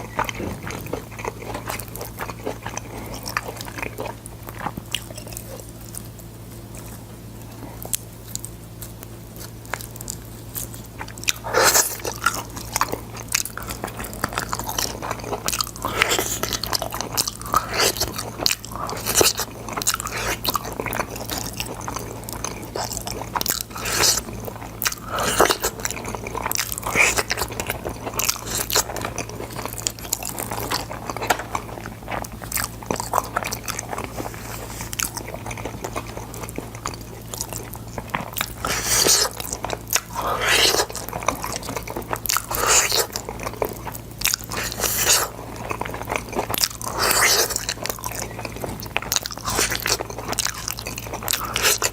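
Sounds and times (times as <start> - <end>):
crunchy chewing: 0.0 - 51.9.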